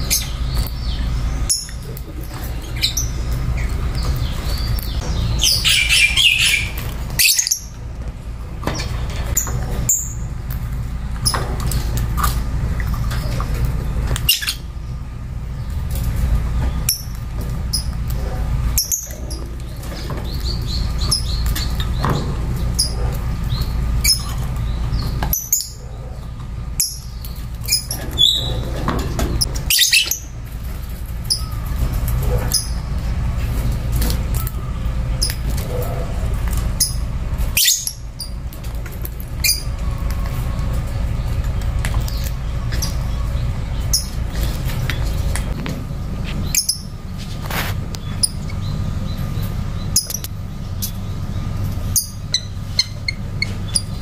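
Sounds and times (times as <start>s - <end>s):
birds chirping and squeaking: 0.0s - 54.0s
steady low rumble: 0.0s - 54.0s.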